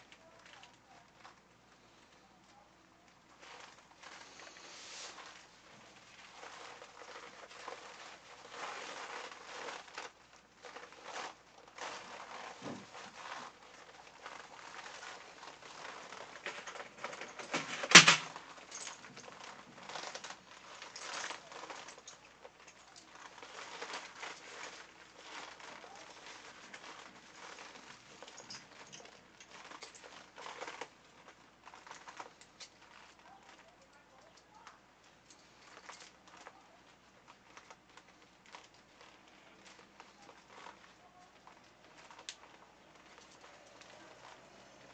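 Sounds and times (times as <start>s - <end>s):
plastic fabric rustling and crinkling: 0.0s - 44.9s.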